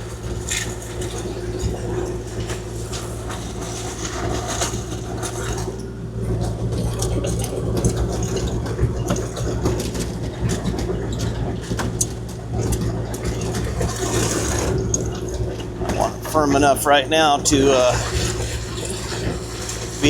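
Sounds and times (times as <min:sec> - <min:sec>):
excavator diesel engine running: 0:00.0 - 0:20.0
gravel crunching and scraping: 0:00.0 - 0:20.0.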